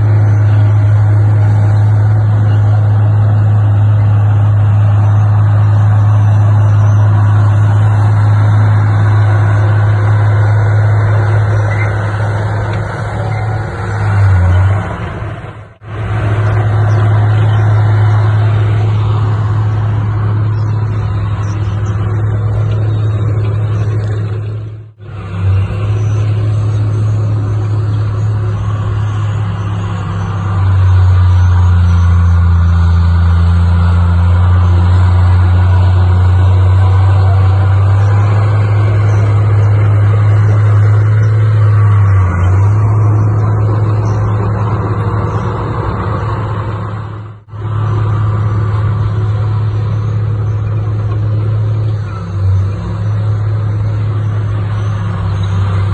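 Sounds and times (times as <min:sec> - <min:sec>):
diesel engine droning: 0:00.0 - 0:55.9.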